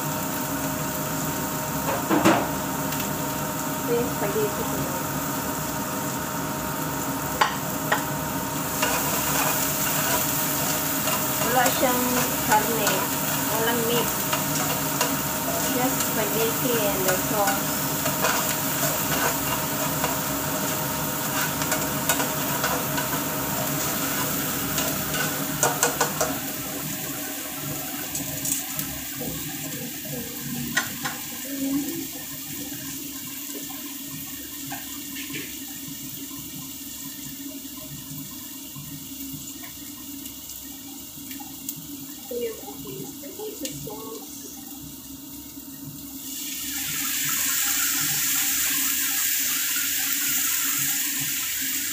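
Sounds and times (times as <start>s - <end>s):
onion sizzling in hot oil: 0.0s - 51.9s.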